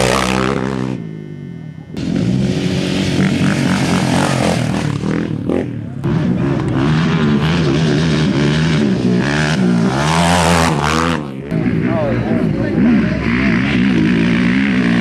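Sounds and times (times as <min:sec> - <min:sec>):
race vehicle engines revving: 0:00.0 - 0:15.0.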